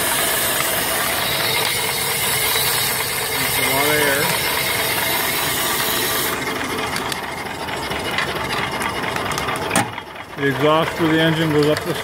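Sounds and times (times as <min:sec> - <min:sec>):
fire rushing under forced draft: 0:00.0 - 0:12.0
steam engine clicking: 0:00.0 - 0:12.0.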